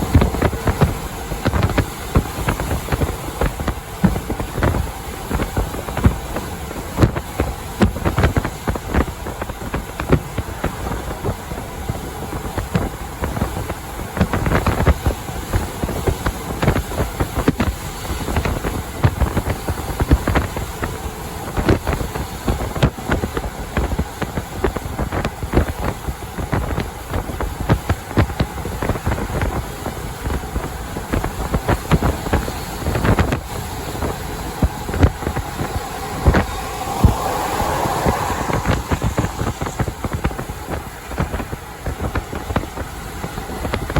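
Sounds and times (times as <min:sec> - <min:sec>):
road and wind rumble: 0:00.0 - 0:43.9
wind buffeting microphone: 0:00.0 - 0:43.9.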